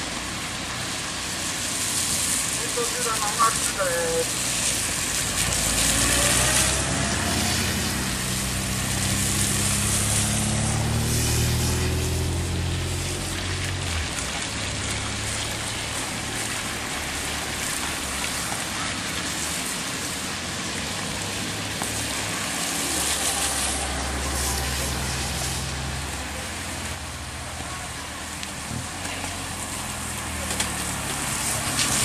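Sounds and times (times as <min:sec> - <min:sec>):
motorcycle passing on wet road: 0:00.0 - 0:32.0
steady rain: 0:00.0 - 0:32.0
car engine approaching: 0:03.8 - 0:32.0.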